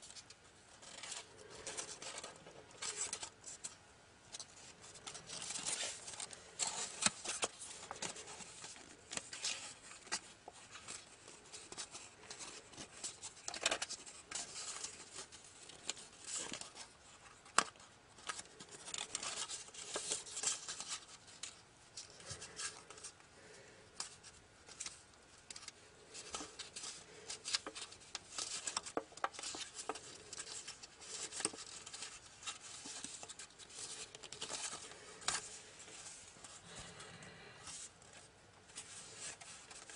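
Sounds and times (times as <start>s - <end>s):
paper crinkling as it is folded: 0.0s - 37.0s, 37.6s - 39.9s.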